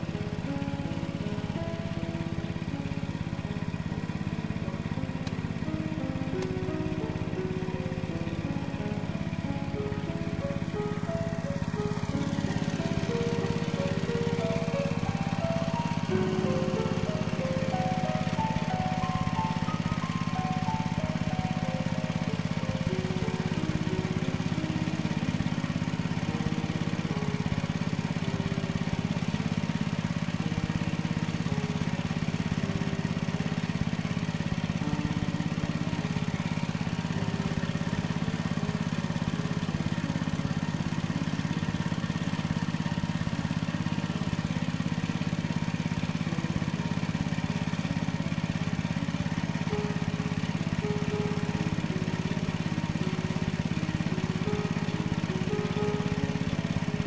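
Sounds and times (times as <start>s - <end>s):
water pump engine droning: 0.0s - 57.0s.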